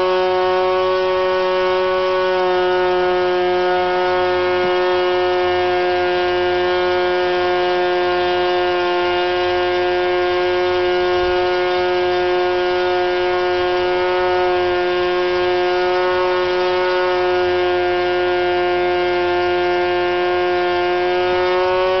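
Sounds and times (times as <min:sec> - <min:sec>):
model engine high-pitched whine: 0:00.0 - 0:22.0.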